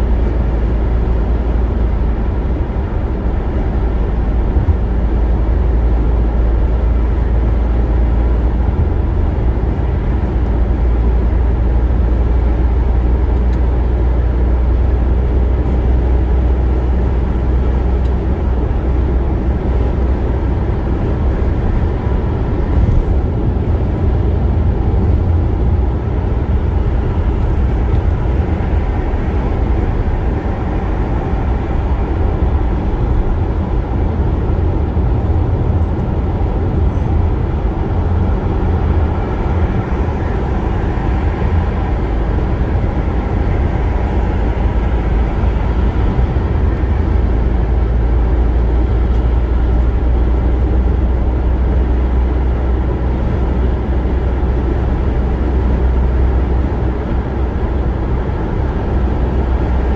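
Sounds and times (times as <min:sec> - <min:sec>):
deep low rumble: 0:00.0 - 0:59.9
road and tyre noise in car: 0:00.0 - 0:59.9.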